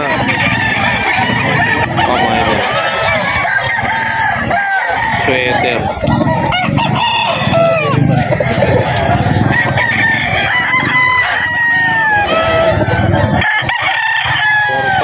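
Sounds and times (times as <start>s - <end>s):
roosters crowing: 0.0s - 15.0s.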